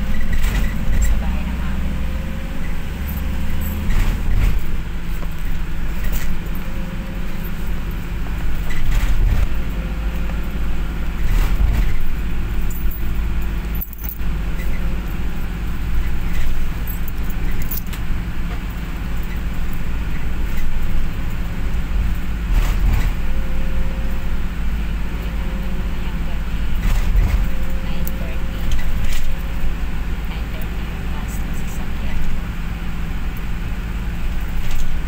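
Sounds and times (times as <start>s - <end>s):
bus engine and road rumble: 0.0s - 35.0s
rattles and clicks: 0.0s - 35.0s.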